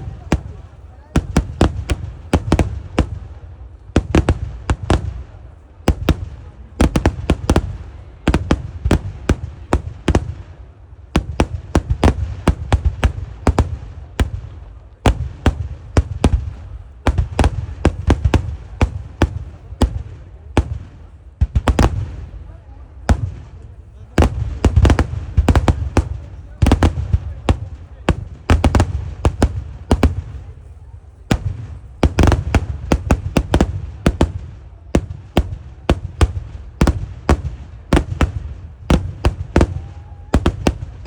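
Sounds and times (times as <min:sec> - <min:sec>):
rapid-fire fireworks bangs: 0:00.0 - 0:41.0.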